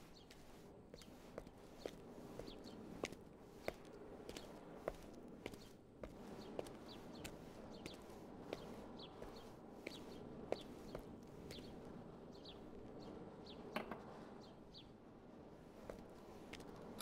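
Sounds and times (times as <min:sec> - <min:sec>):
birds chirping: 0:00.0 - 0:13.8
faint outdoor ambience: 0:00.0 - 0:17.0.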